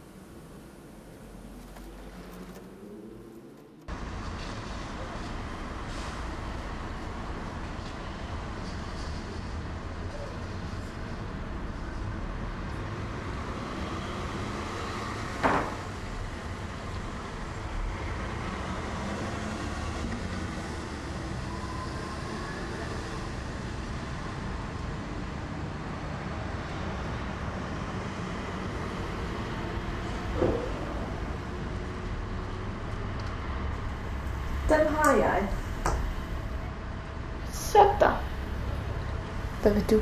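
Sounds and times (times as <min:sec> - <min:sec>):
low rumbling background noise: 0:00.0 - 0:21.5, 0:23.1 - 0:40.0.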